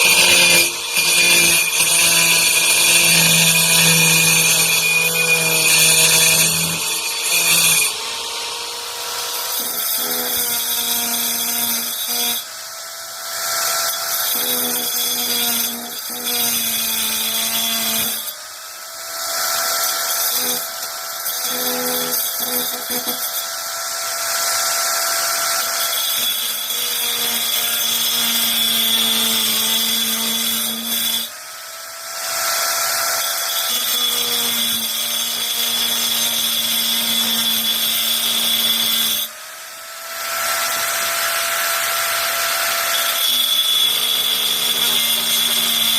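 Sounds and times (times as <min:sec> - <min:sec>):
angle grinder grinding: 0:00.0 - 0:18.4, 0:19.1 - 0:31.4, 0:32.0 - 0:45.9.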